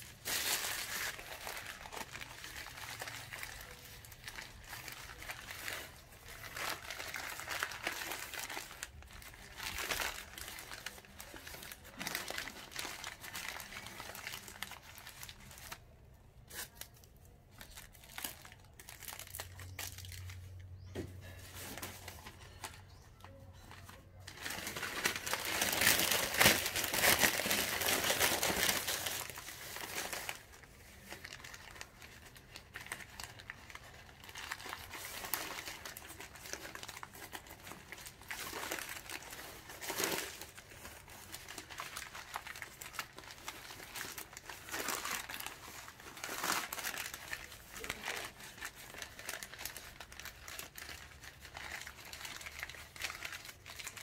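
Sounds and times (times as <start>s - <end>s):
newspaper crumpling and rustling: 0.0s - 54.0s.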